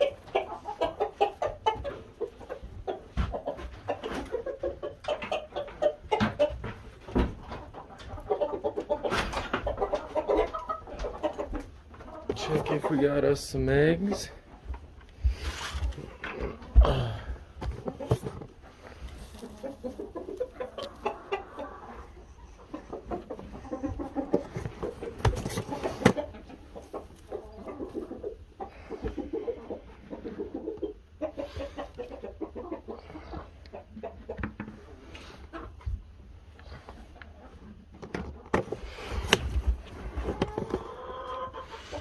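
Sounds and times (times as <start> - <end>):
hens clucking: 0.0 - 42.0.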